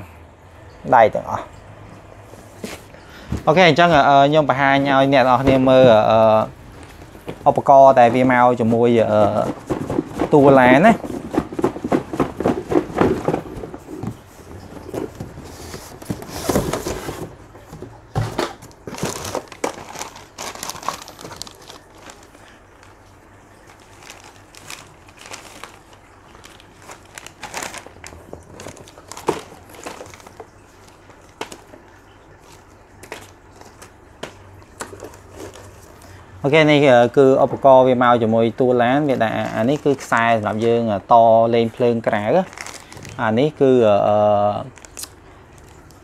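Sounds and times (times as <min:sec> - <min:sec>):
plastic bags crinkling: 0:02.4 - 0:36.2, 0:39.0 - 0:40.8, 0:41.7 - 0:46.0.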